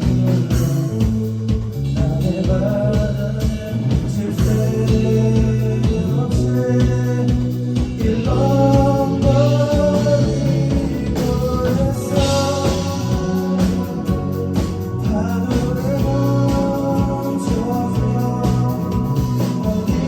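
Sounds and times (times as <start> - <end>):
rock song with vocals: 0.0 - 20.0.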